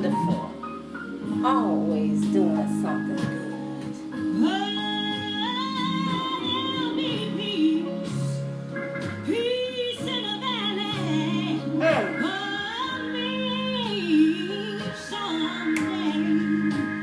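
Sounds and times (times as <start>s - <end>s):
gospel music on a radio: 0.0s - 17.0s.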